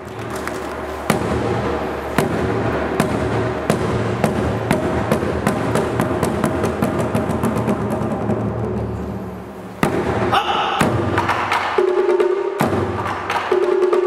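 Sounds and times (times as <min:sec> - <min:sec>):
accelerating drum strikes: 0:01.1 - 0:08.8, 0:09.8 - 0:14.0.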